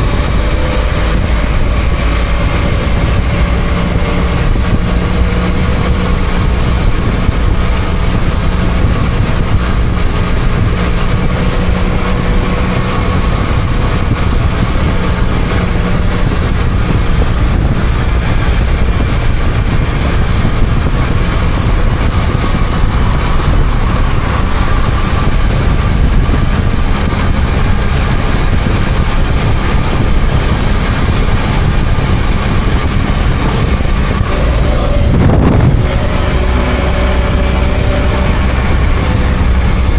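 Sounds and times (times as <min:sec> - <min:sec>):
motorcycle engine running: 0:00.0 - 0:39.9
road noise: 0:00.0 - 0:39.9
wind rushing: 0:00.0 - 0:39.9.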